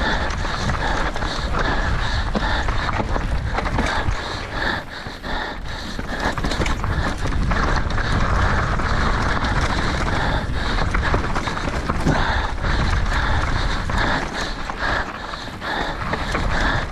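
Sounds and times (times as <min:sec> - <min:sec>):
bike rumbling on rough ground: 0:00.0 - 0:16.9
person panting hard: 0:00.0 - 0:16.9.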